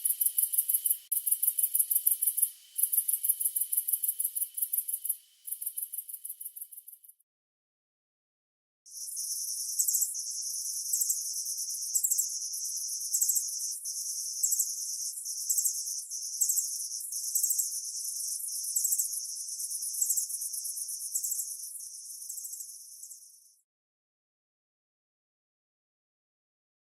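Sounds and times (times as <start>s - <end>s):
crickets chirping: 0.0s - 7.1s, 8.9s - 23.6s.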